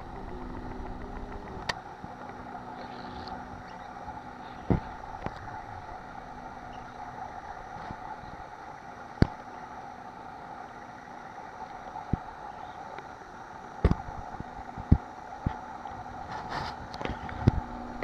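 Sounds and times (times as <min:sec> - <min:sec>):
steady background drone: 0:00.0 - 0:18.0.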